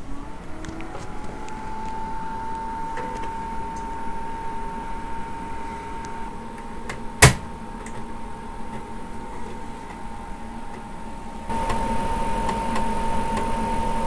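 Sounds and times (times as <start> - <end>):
floppy drive humming: 0.0 - 14.0.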